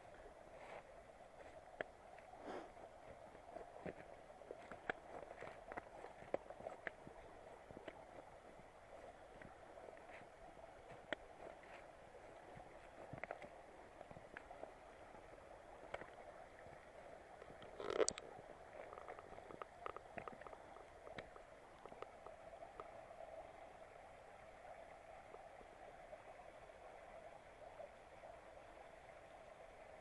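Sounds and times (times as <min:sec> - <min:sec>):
stream babbling over rocks: 0:00.0 - 0:30.0.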